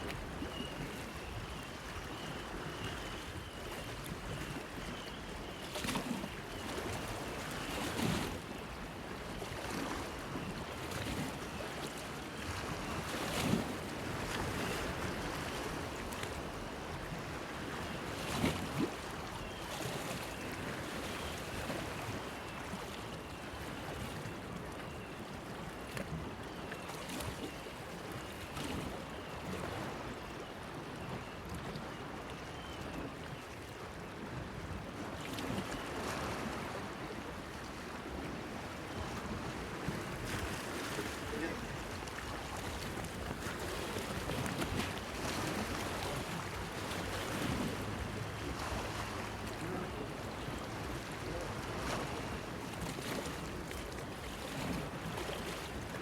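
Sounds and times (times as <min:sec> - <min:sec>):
small waves lapping against pier: 0:00.0 - 0:56.0.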